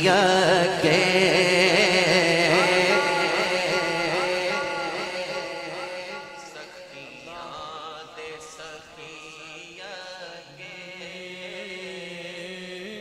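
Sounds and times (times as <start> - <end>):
low vocal drone: 0.0 - 13.0
ornamented vocal line: 0.0 - 13.0.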